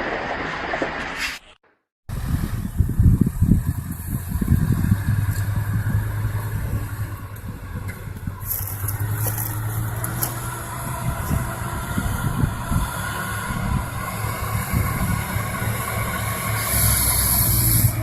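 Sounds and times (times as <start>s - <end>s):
heavy vehicle engine droning: 2.1s - 18.0s
vehicle rumbling: 2.1s - 18.0s.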